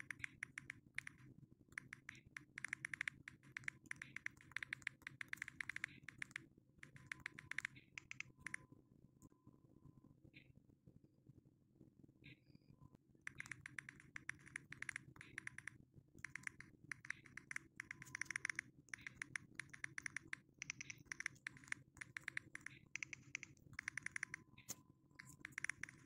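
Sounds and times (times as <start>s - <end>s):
keyboard typing: 0.0s - 8.6s, 13.3s - 26.0s
faint low hum: 0.0s - 26.0s.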